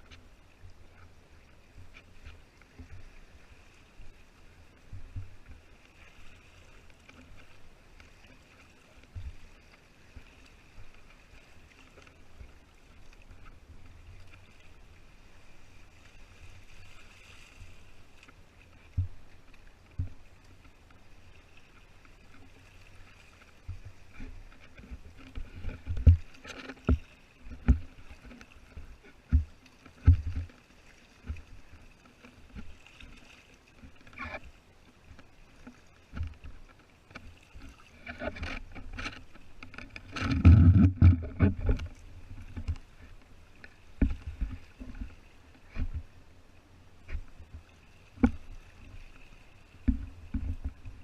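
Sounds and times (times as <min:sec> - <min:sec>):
water splashing against kayak hull: 0:00.0 - 0:51.0.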